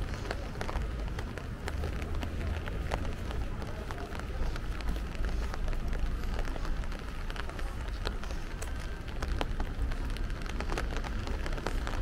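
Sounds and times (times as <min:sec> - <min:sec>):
rain pattering on wet tiles: 0:00.0 - 0:12.0.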